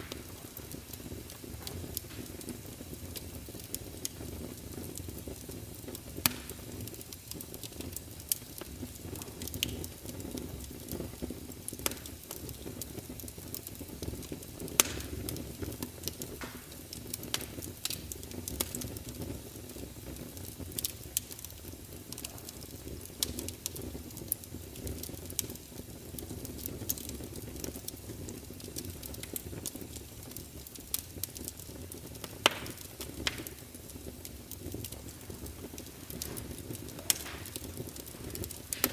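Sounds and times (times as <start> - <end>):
sharp pops of burning logs: 0.0 - 38.9
wood fire crackling: 0.0 - 38.9.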